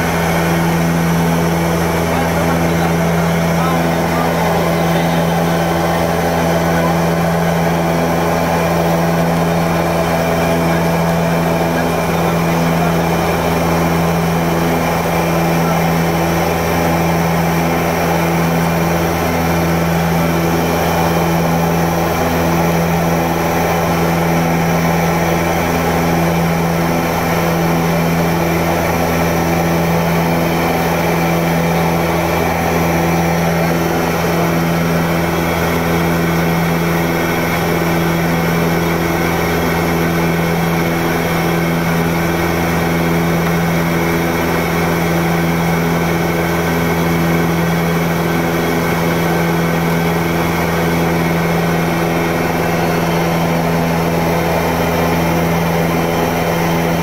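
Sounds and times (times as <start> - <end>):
turboprop engines droning in flight: 0.0 - 57.0.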